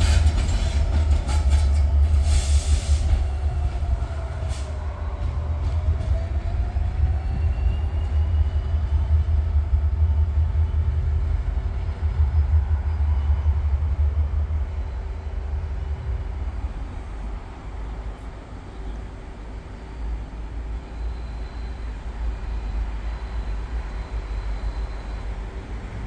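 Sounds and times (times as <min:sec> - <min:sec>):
locomotive low rumble: 0:00.0 - 0:26.0.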